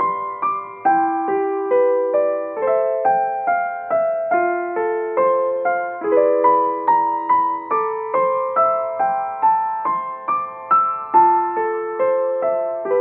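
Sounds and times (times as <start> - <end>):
gentle piano notes: 0.0 - 13.0.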